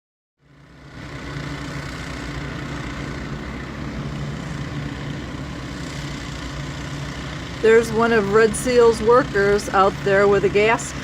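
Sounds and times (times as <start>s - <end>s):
water pump engines droning: 0.4s - 11.0s.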